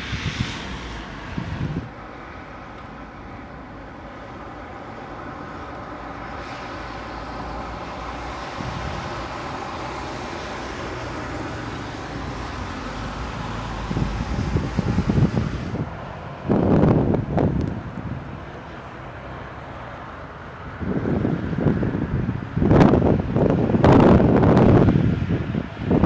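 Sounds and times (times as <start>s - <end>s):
wind buffeting microphone: 0.0s - 2.6s, 4.3s - 19.1s, 20.6s - 26.0s
car passing on snowy street: 0.0s - 26.0s.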